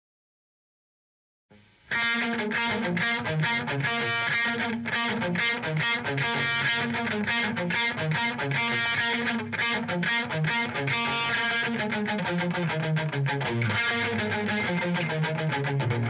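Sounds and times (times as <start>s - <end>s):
distorted electric guitar riff: 1.5s - 16.0s.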